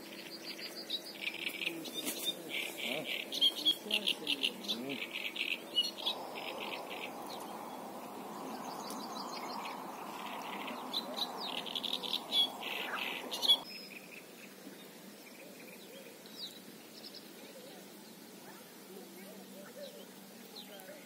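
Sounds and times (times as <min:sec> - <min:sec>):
small birds chirping: 0:00.0 - 0:21.0
steady rushing hiss: 0:00.0 - 0:21.0.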